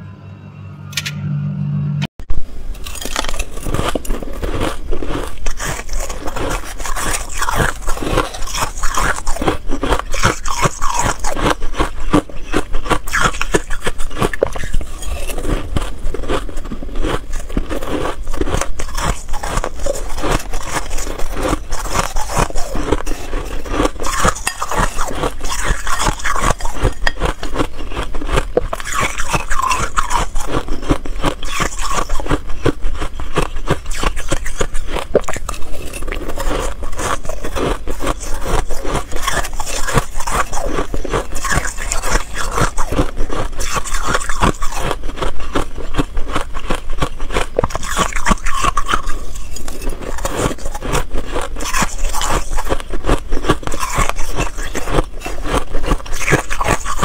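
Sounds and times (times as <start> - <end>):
crunching and chewing frost: 2.7 - 57.0.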